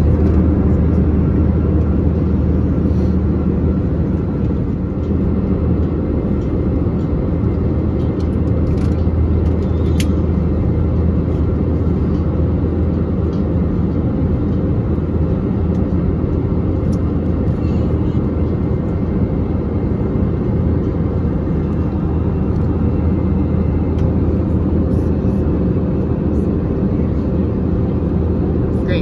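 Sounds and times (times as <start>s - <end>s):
airplane cabin engine drone: 0.0s - 29.0s.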